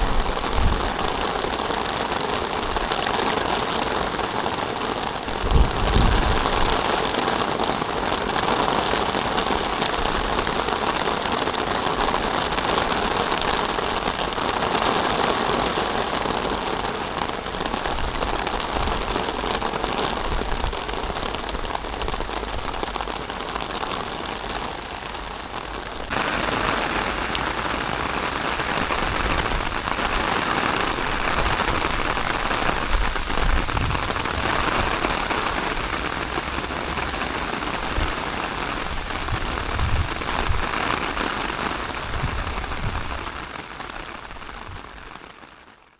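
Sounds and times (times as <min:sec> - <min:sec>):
heavy rain hitting stone: 0:00.0 - 0:45.6.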